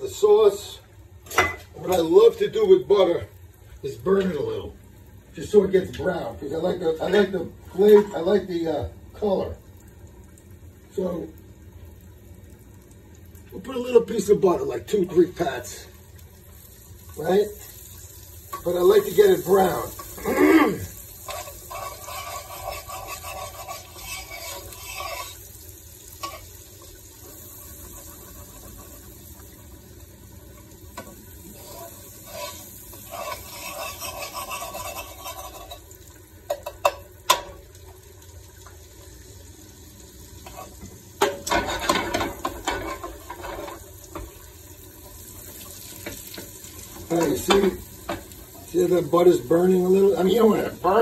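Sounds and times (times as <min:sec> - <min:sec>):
butter sizzling in a pan: 0:00.0 - 0:51.0.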